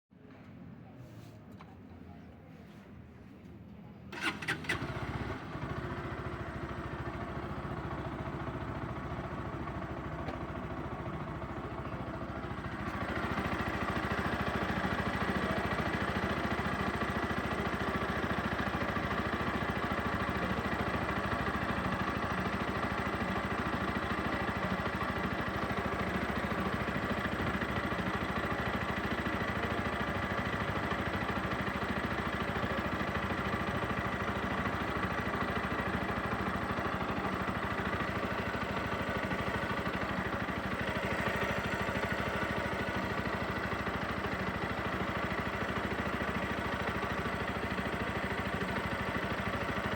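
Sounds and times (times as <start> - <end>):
motorcycle engine idling: 4.1 - 49.9.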